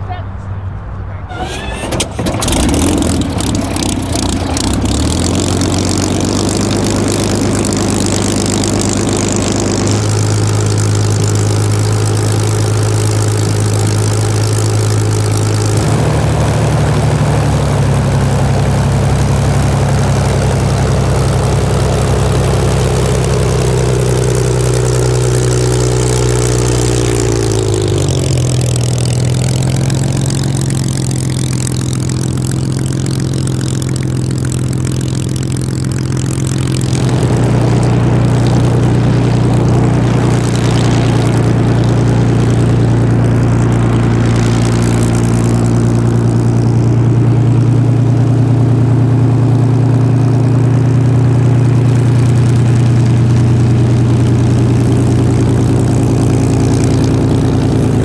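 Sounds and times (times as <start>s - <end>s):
aircraft engine running loud: 1.2s - 47.8s.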